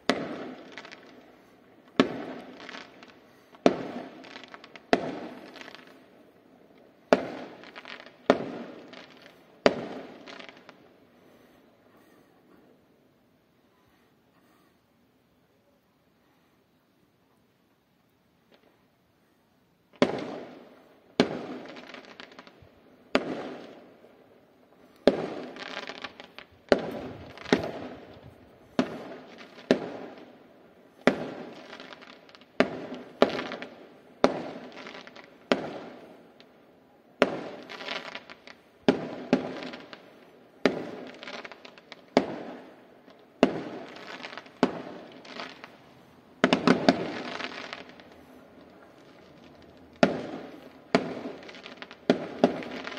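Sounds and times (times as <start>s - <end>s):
fireworks bursting with bangs: 0.0s - 12.8s, 19.8s - 52.9s.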